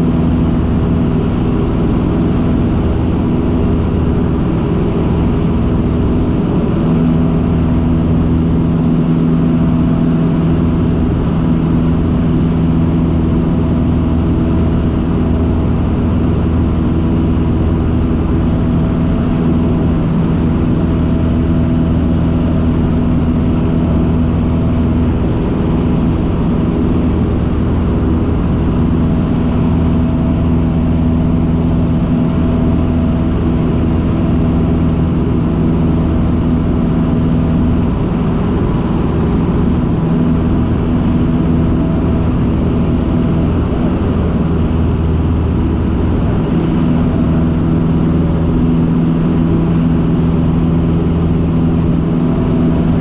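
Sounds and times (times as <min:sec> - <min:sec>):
airplane engine drone in cockpit: 0:00.0 - 0:53.0.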